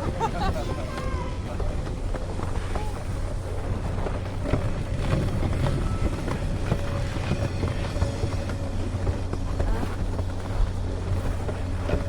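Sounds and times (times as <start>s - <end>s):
snowmobile engine droning: 0.0s - 12.0s
wind buffeting microphone: 0.0s - 12.0s.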